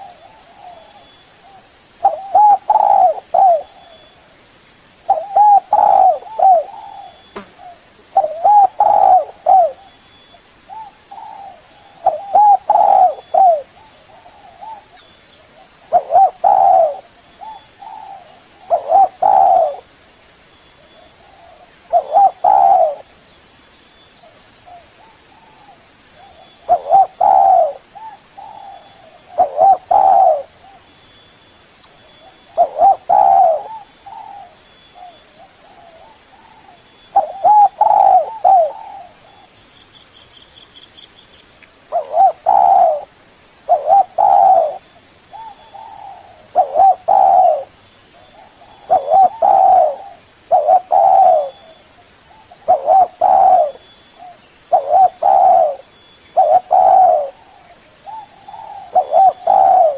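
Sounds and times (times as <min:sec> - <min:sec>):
dove cooing: 0:00.0 - 0:04.4, 0:05.1 - 0:10.0, 0:10.7 - 0:19.9, 0:20.9 - 0:23.1, 0:24.2 - 0:30.9, 0:32.1 - 0:39.5, 0:41.9 - 0:43.1, 0:43.7 - 0:59.9.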